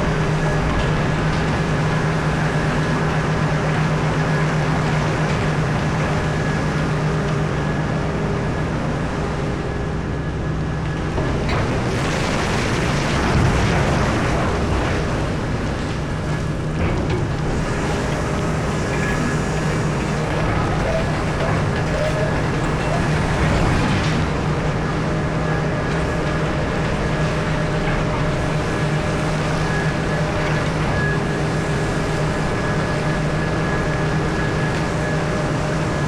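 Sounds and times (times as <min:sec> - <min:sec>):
excavator engine drone: 0:00.0 - 0:36.0.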